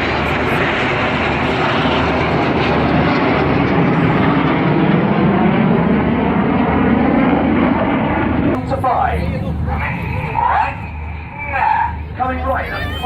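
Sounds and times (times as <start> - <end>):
jet engine rush: 0.0 - 13.0.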